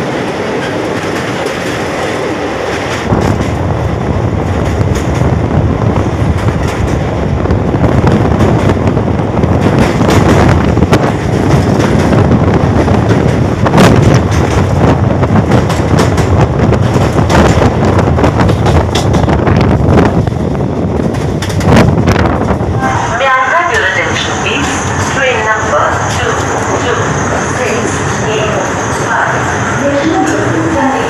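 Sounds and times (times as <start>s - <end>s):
rail joint clacks: 0.0s - 31.0s
train wheels rumbling on rails: 0.0s - 31.0s.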